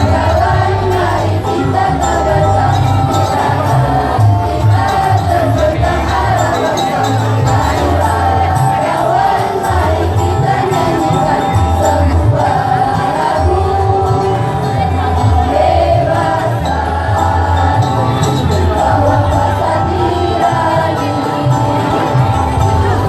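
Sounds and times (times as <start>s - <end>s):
choir singing: 0.0s - 23.0s
music with strong bass line: 0.0s - 23.0s.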